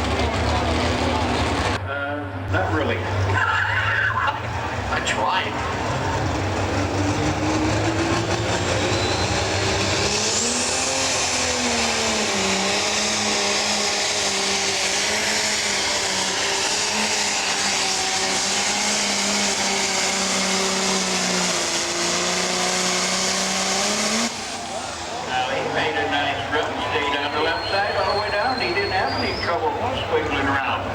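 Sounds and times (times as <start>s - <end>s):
tractor diesel engine at full throttle: 0.0s - 30.9s.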